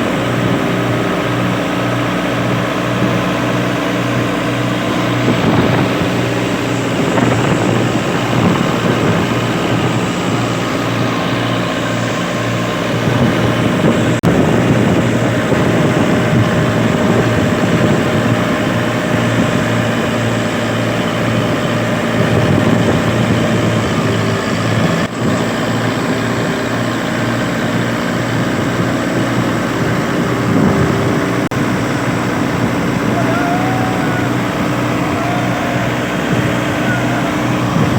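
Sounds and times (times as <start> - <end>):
thresher machine drone: 0.0 - 37.9.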